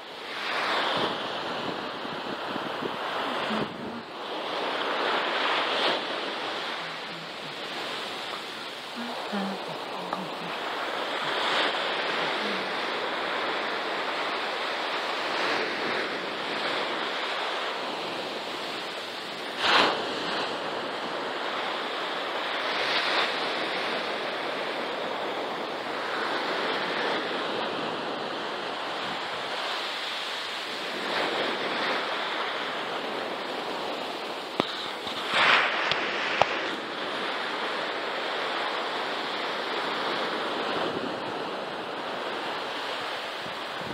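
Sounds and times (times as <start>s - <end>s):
surf breaking on a beach: 0.0s - 43.9s.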